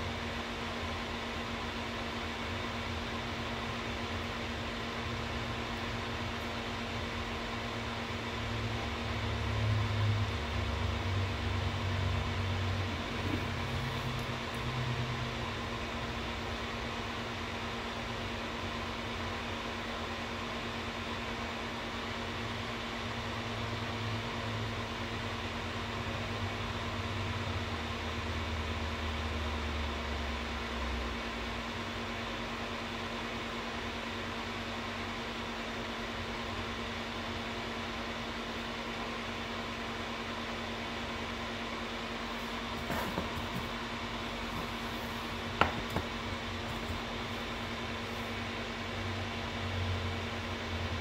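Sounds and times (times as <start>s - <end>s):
fan whirring: 0.0s - 51.0s.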